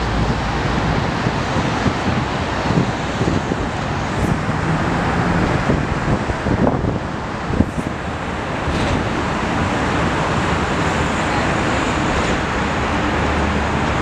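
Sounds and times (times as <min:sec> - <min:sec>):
road traffic roar: 0:00.0 - 0:14.0.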